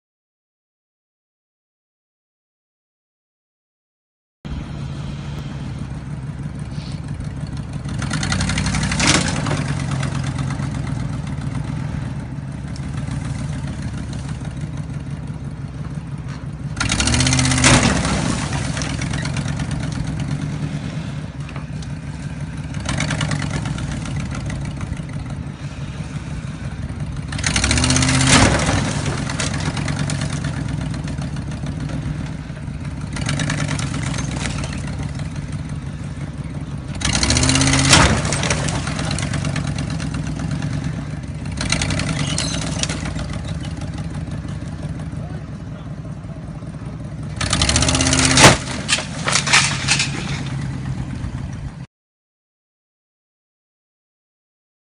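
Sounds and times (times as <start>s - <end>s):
pickup engine revving: 4.5s - 15.2s, 15.9s - 51.8s.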